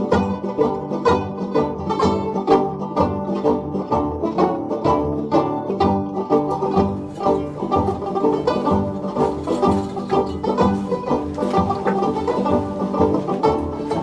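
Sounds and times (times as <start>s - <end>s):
upbeat acoustic string tune: 0.0s - 14.0s.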